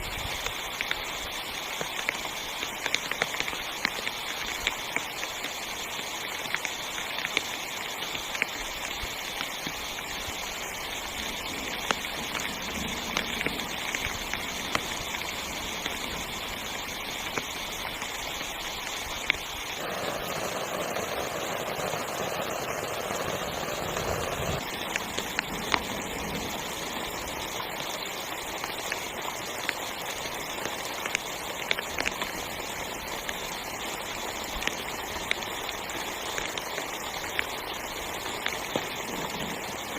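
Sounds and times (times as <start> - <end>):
heavy rain drumming on a tent: 0.0 - 39.9.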